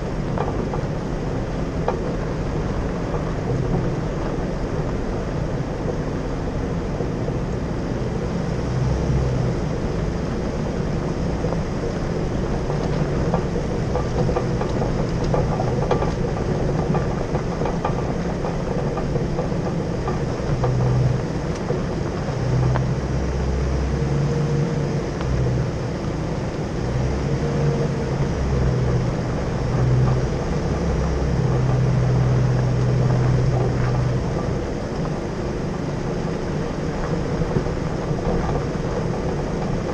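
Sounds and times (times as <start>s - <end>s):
car engine running low: 0.0s - 39.9s.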